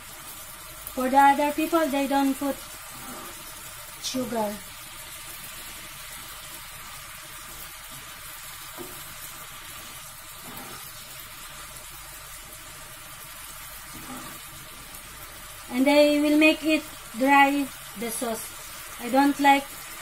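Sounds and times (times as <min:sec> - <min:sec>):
sauce bubbling in frying pan: 0:00.0 - 0:20.0.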